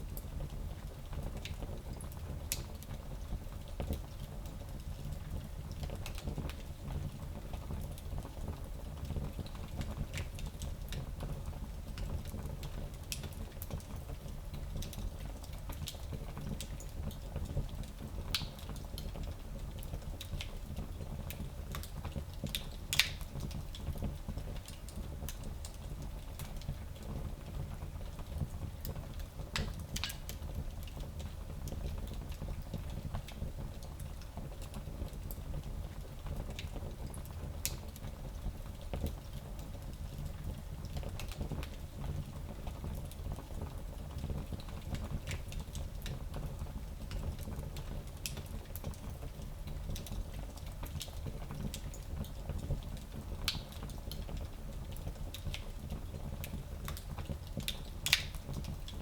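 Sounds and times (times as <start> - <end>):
fire crackling and popping: 0.1 - 3.0, 3.8 - 59.0
fire rumbling in fireplace: 0.1 - 59.0.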